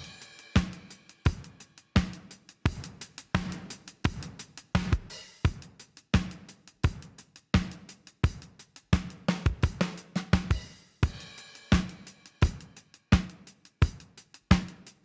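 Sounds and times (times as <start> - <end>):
hi-hat ticks: 0.0 - 15.0.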